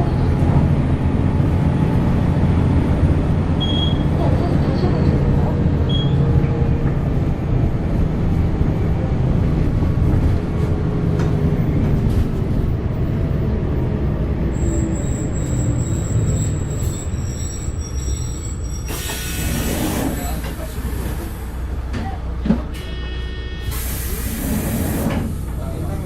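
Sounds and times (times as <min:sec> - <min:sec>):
diesel bus engine running: 0:00.0 - 0:26.0.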